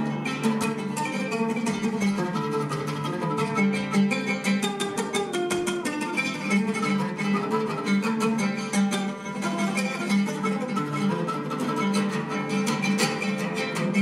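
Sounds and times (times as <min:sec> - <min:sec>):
oud playing fast picked notes: 0:00.0 - 0:14.0.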